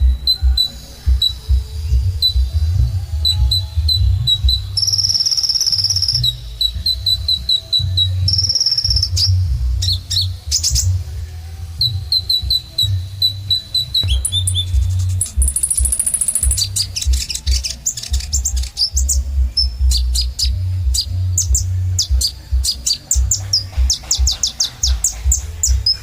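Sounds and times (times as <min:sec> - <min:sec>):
buzzy bird trill: 0:00.0 - 0:26.0
steady low rumble: 0:00.0 - 0:26.0
sunbird singing high chip notes: 0:00.0 - 0:26.0.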